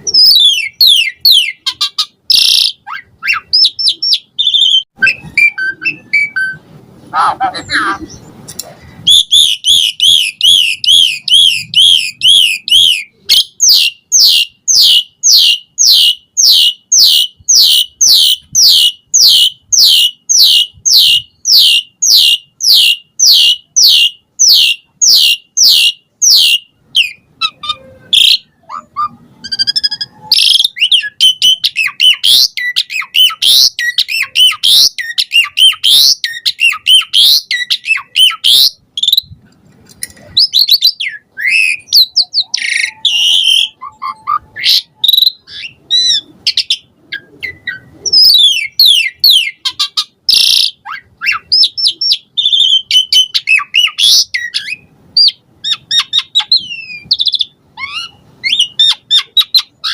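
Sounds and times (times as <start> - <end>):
starling whistling and chattering: 0.0 - 6.6, 9.1 - 39.3, 40.4 - 59.9.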